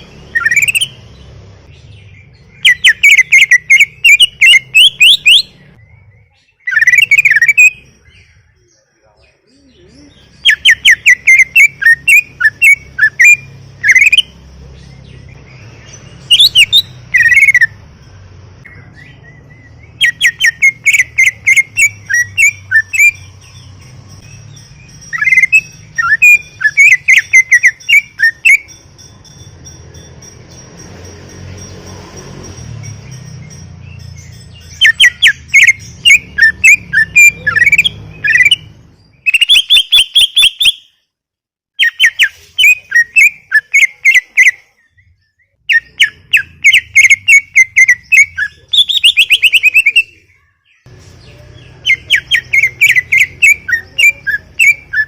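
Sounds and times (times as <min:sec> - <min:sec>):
bird singing chattering whistles: 0:00.0 - 0:01.2, 0:01.9 - 0:08.8, 0:09.4 - 0:17.8, 0:18.6 - 0:30.6, 0:32.8 - 0:41.0, 0:41.8 - 0:55.0.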